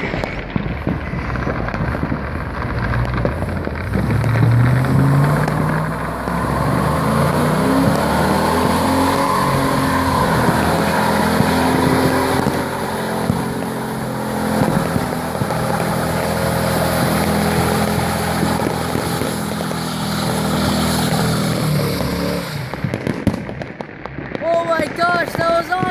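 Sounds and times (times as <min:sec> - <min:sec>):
scattered crackles: 0:00.0 - 0:25.9
car engine running: 0:00.5 - 0:23.0.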